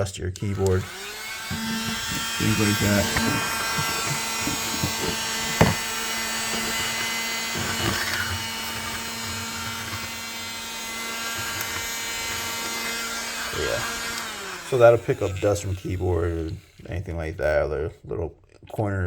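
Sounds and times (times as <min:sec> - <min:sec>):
handheld vacuum cleaner whine: 0:00.4 - 0:17.8.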